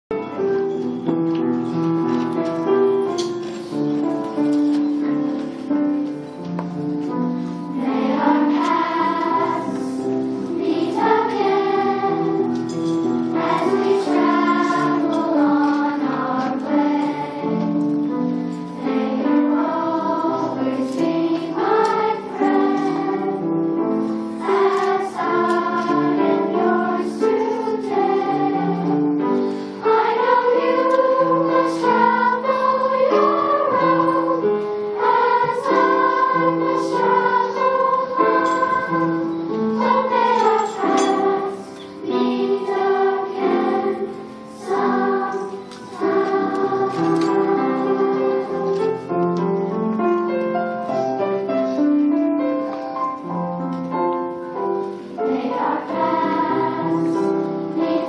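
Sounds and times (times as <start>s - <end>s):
children's chorus singing: 0.1s - 58.0s.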